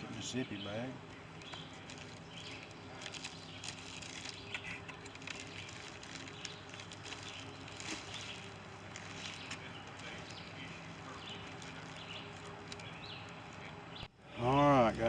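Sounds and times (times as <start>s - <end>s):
birds chirping: 0.0s - 15.0s
outdoor ambience: 0.0s - 15.0s.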